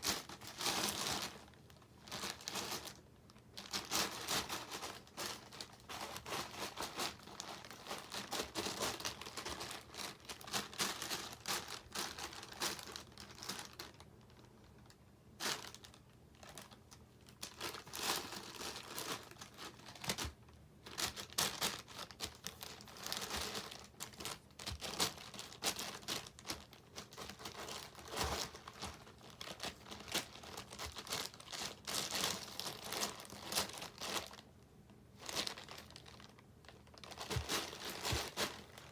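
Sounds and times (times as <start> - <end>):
plastic wrapper crackling: 0.0 - 34.5, 35.2 - 38.9.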